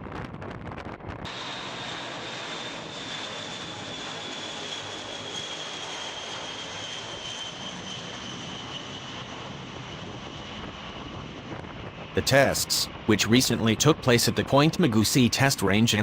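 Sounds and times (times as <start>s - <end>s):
jet engines with high whine: 0.0s - 16.0s.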